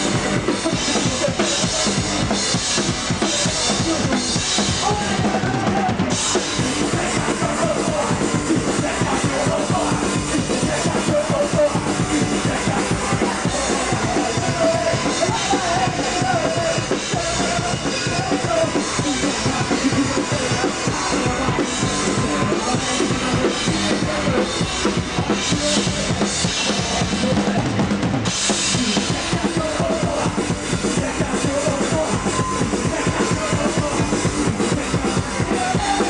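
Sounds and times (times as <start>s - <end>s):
drum kit and bass drum: 0.0s - 36.0s
punk rock band playing live: 0.0s - 36.0s.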